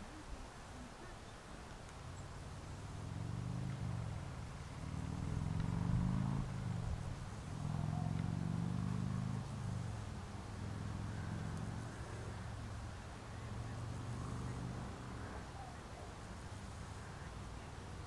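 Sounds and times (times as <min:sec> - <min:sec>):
motor vehicle engine hum: 0:01.7 - 0:18.0.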